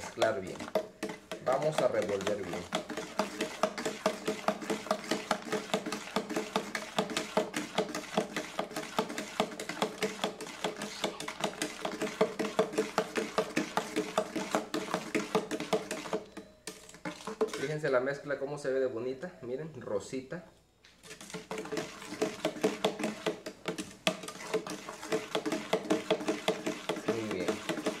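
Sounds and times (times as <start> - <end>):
spoon knocking container sides: 0.0 - 17.8, 21.4 - 28.0.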